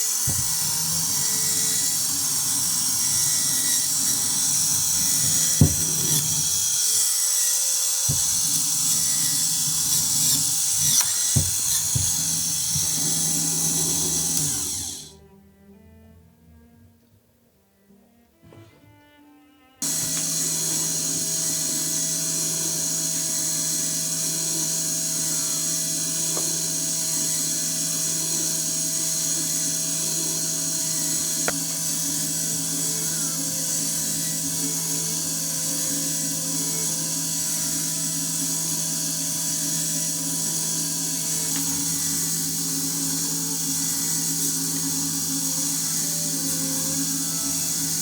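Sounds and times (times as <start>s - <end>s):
model engine whirring: 0.0s - 15.2s, 19.8s - 48.0s.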